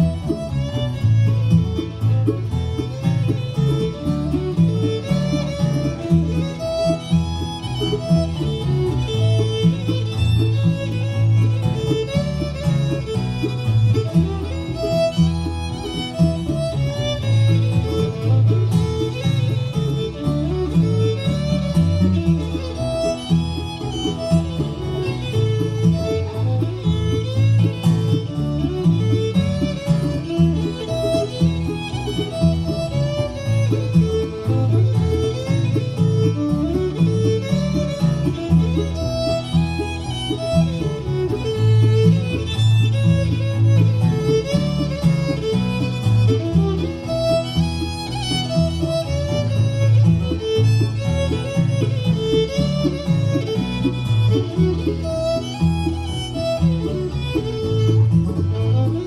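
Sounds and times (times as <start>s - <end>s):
bass: 0.0s - 59.0s
fiddle melody: 0.0s - 59.0s
guitar: 0.0s - 59.0s.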